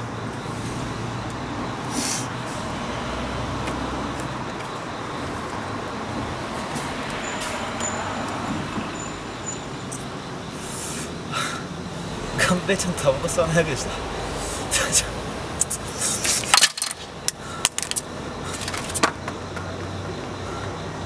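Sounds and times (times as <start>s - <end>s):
road traffic hiss: 0.0s - 21.0s.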